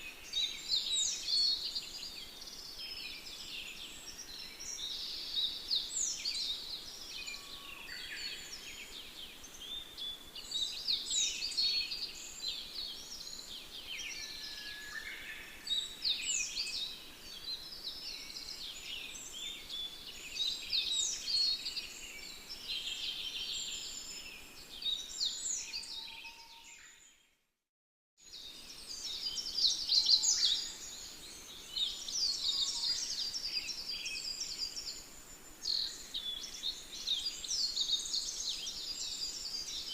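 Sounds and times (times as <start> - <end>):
songbirds chirping and trilling: 0.0 - 27.3, 28.2 - 39.9.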